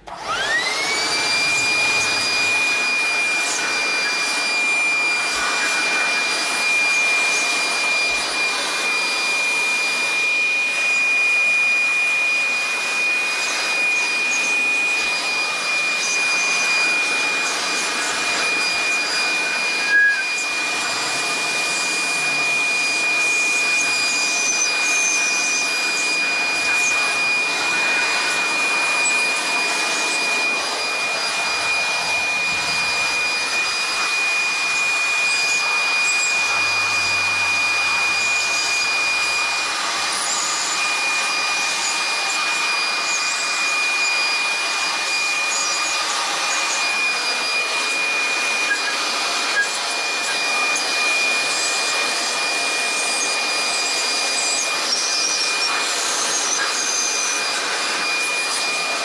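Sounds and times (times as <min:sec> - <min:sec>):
leaf blower running: 0:00.0 - 0:59.0.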